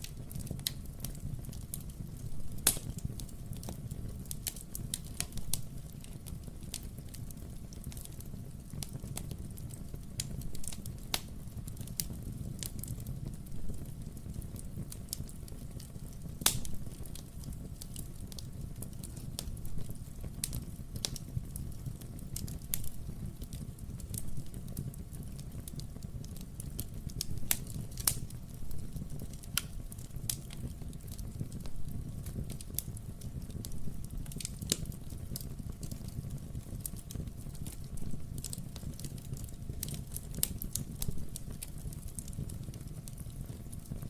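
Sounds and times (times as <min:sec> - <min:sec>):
logs crackling and popping: 0:00.0 - 0:44.0
wood fire rumbling: 0:00.0 - 0:44.0.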